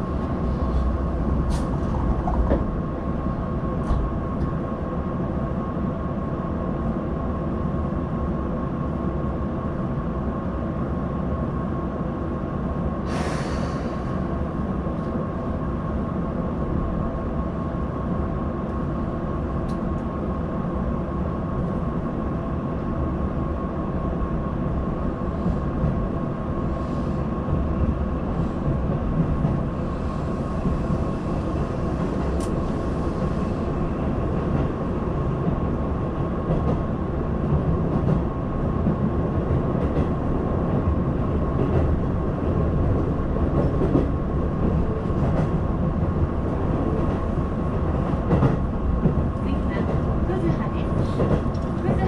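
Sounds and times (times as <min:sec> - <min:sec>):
train wheels rumbling on rails: 0:00.0 - 0:07.0, 0:12.0 - 0:52.0.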